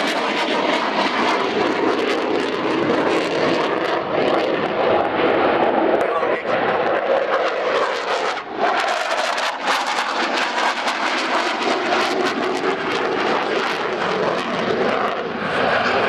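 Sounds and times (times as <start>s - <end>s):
jet engines roaring in flight: 0.0s - 16.0s.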